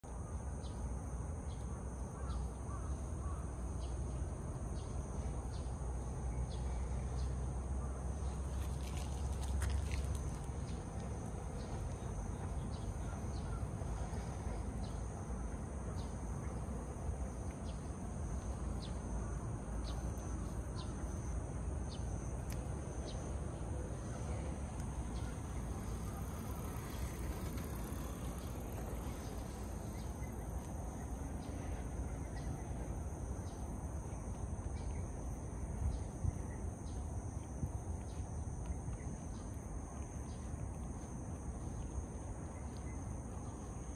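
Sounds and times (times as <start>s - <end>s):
low outdoor rumble: 0.1s - 43.9s
high insect drone: 0.2s - 43.9s.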